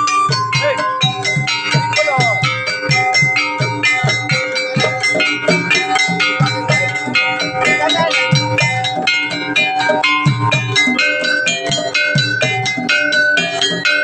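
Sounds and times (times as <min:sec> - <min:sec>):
gamelan ensemble playing: 0:00.0 - 0:14.0
gongs: 0:00.0 - 0:14.0.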